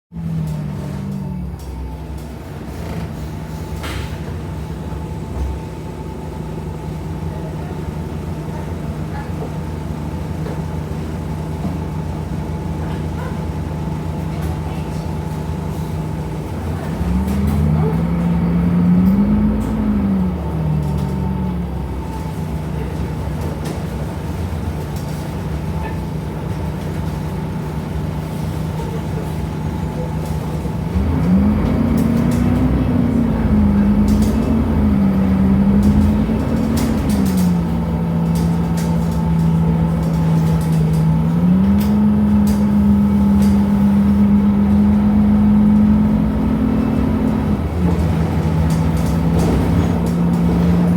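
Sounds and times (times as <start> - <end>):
bus diesel engine running: 0.1 - 50.9.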